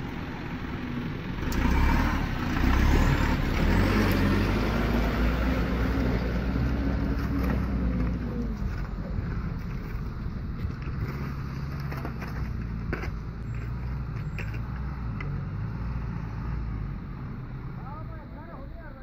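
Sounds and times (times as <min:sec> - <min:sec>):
diesel truck driving past: 0:00.0 - 0:19.0.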